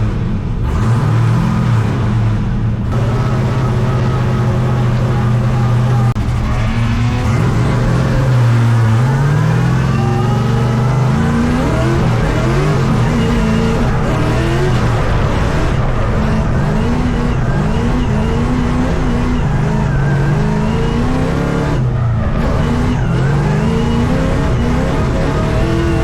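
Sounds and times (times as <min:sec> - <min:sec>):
car engine revving on track: 0:00.0 - 0:26.0.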